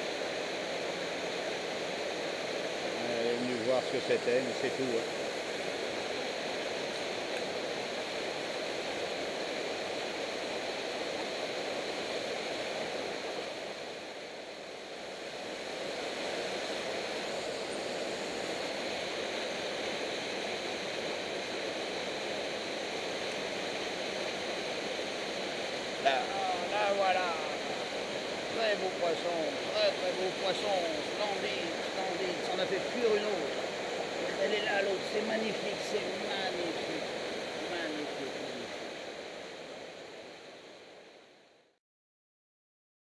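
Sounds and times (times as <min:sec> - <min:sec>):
waterfall rushing into pool: 0:00.0 - 0:41.4.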